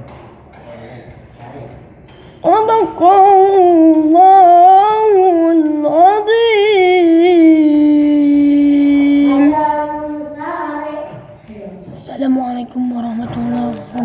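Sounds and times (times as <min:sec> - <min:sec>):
boy chanting recitation: 0:00.6 - 0:14.0.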